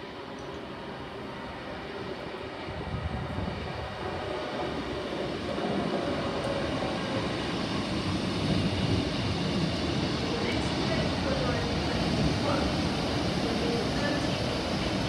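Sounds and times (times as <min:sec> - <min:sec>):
diesel train passing: 0:00.0 - 0:15.0.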